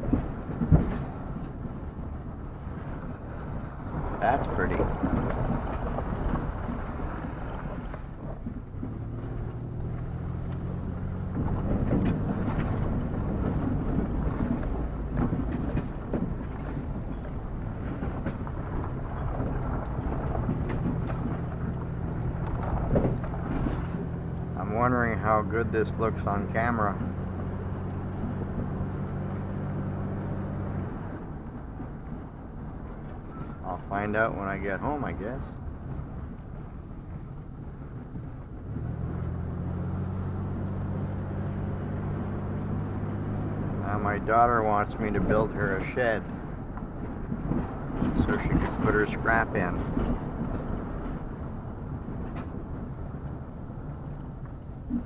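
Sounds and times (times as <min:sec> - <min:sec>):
engine hum: 0:00.0 - 0:55.0
vehicle engine and road rumble: 0:00.0 - 0:55.0.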